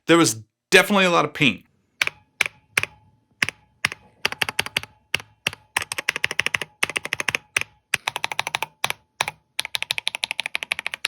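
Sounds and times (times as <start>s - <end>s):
mechanical keyboard typing: 2.0s - 11.0s.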